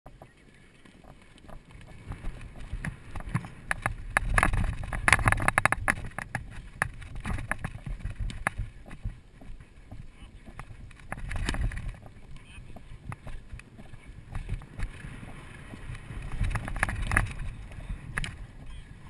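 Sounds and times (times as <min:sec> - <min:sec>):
hooves galloping: 0:00.1 - 0:19.0
wind rumble on microphone: 0:00.1 - 0:19.0.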